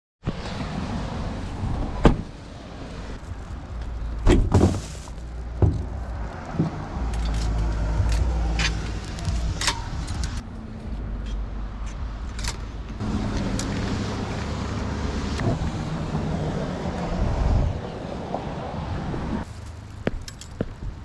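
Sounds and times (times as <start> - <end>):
vehicle engine droning: 0.3 - 21.0.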